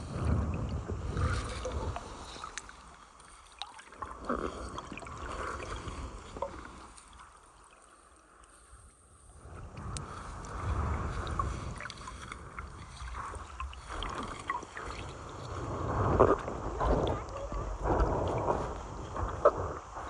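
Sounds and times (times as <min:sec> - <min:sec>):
water sloshing and trickling: 0:00.0 - 0:20.0.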